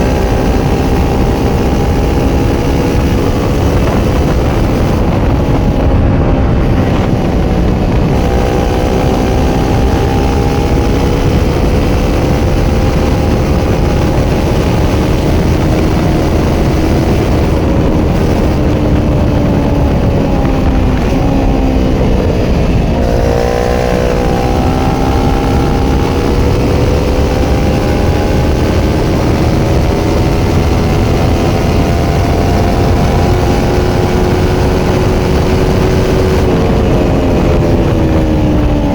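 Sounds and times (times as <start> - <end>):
motorcycle engine at speed: 0.0 - 38.9
wind rushing: 0.0 - 38.9.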